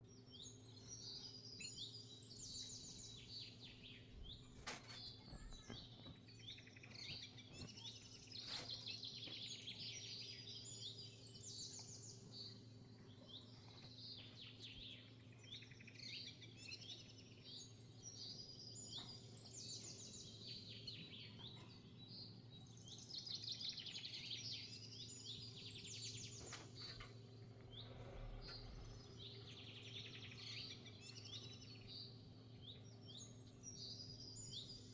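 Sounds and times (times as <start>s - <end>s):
small songbird chirping and trilling: 0.0s - 34.9s.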